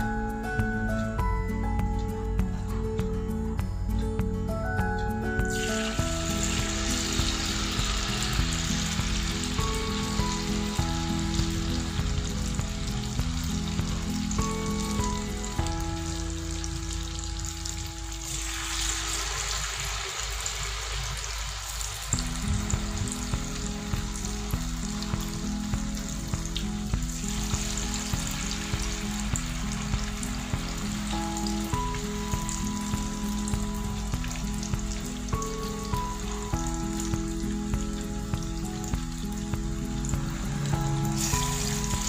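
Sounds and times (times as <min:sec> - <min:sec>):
background music with steady beat: 0:00.0 - 0:42.0
food sizzling in hot oil: 0:00.0 - 0:42.0.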